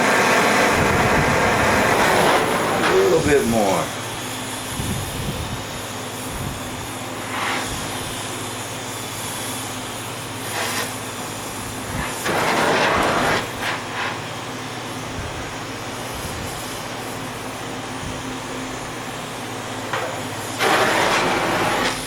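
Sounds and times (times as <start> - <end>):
gas torch hum and hiss: 0.0 - 22.0.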